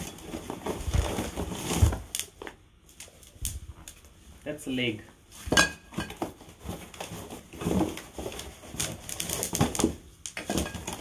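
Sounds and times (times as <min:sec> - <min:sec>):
crinkling plastic wrap: 0:00.0 - 0:04.2, 0:06.2 - 0:11.0.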